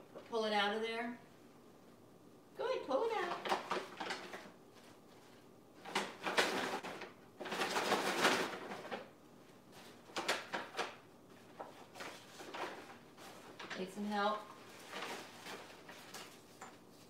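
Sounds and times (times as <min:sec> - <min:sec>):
paper bag and tissue rustling: 0:03.2 - 0:17.0.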